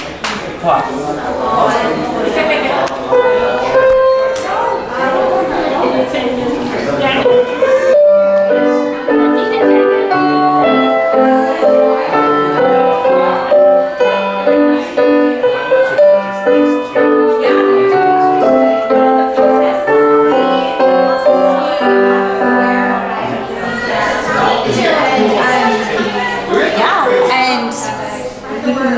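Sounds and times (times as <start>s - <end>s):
piano music: 1.7s - 28.0s.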